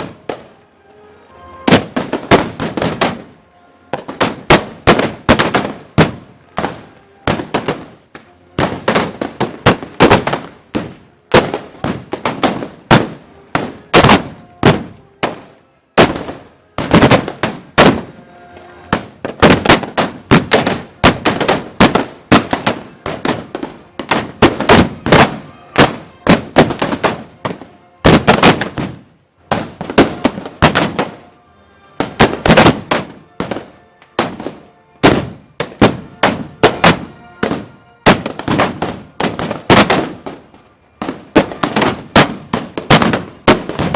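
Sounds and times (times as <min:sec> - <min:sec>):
black-powder guns firing volleys: 0:01.7 - 0:03.3, 0:03.9 - 0:18.2, 0:18.9 - 0:31.3, 0:32.0 - 0:43.9.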